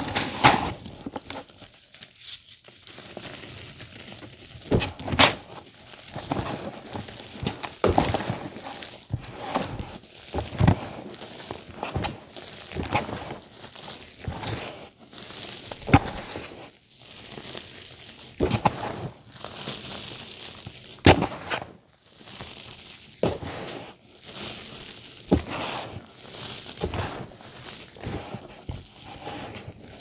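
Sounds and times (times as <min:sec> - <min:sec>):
chalk crunching: 0:00.0 - 0:30.0
powder sifting hiss: 0:02.8 - 0:30.0.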